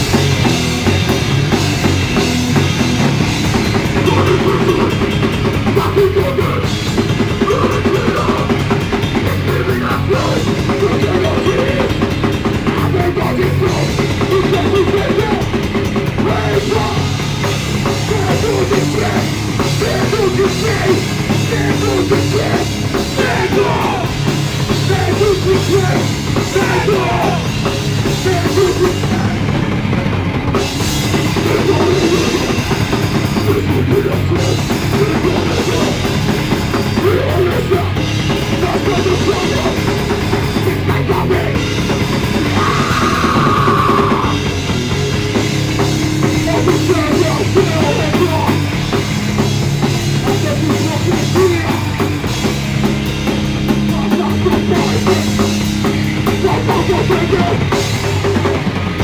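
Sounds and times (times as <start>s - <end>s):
pounding drum kit: 0.0s - 59.0s
punk rock band playing live: 0.0s - 59.0s.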